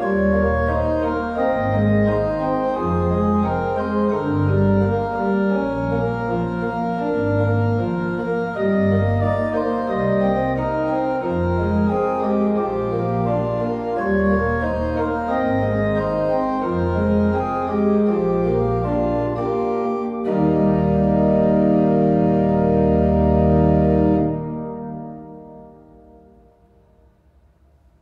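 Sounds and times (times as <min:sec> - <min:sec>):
church organ playing chords: 0:00.0 - 0:26.8.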